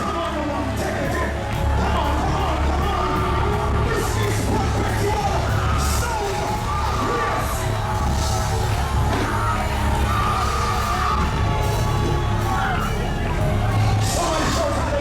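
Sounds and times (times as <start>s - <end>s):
heavy bass line: 0.0s - 15.0s
live gospel music: 0.0s - 15.0s
voices singing and calling out: 0.0s - 15.0s.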